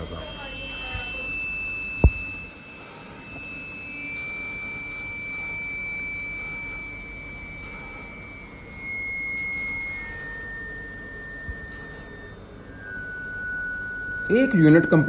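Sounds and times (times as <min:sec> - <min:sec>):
ventilator high-pitched whine: 0:00.0 - 0:15.0.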